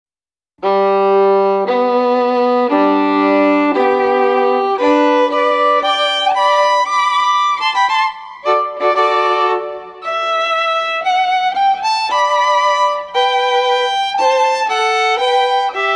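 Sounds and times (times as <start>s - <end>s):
violin melody: 0.6s - 15.9s.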